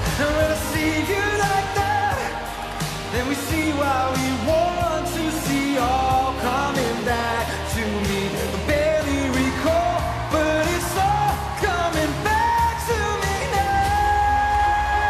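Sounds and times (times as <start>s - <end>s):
band playing: 0.0s - 15.0s
man singing: 0.0s - 15.0s.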